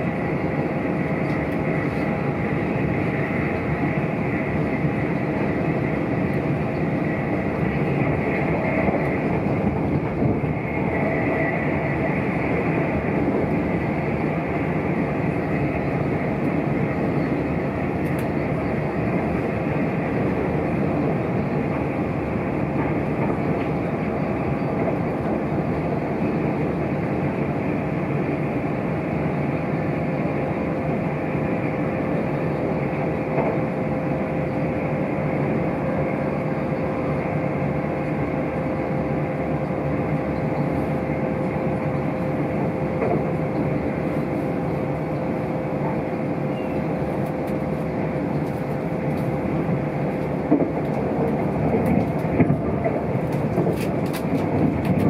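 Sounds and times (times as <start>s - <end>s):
constant hum: 0.0s - 55.0s
train wheels on track: 0.0s - 55.0s.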